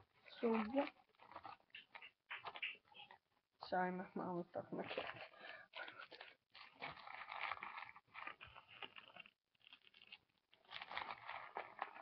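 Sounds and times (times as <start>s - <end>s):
wrapper crinkling: 0.0s - 12.0s.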